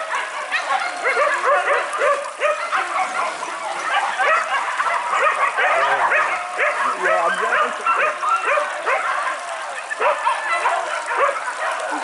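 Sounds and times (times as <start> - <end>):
dogs baying and yelping: 0.0 - 12.0.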